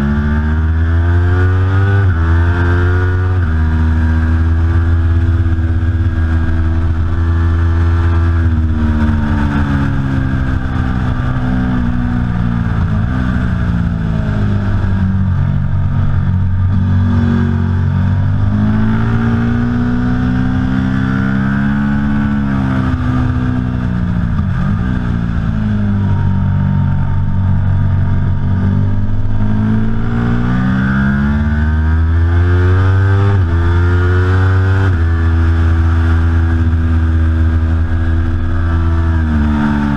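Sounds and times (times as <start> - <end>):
motorcycle engine at racing speed: 0.0 - 39.9.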